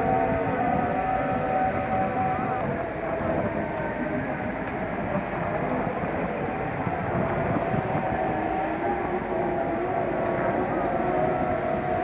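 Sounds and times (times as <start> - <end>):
hydraulic whine: 0.0 - 12.0.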